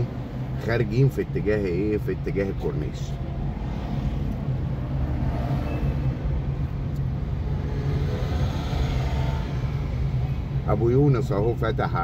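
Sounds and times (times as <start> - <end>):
car engine hum and road rumble: 0.0 - 12.0.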